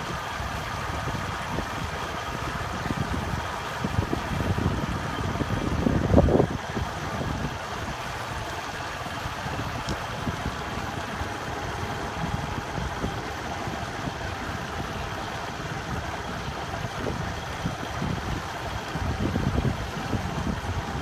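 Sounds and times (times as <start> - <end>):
low irregular rumble: 0.0 - 21.0
wind and road noise: 0.0 - 21.0
motorbike running: 1.4 - 21.0.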